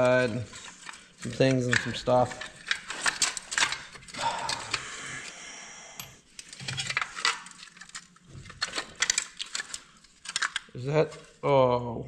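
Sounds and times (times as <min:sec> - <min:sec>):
small metal and plastic parts clicking: 0:00.0 - 0:04.9, 0:06.0 - 0:11.3.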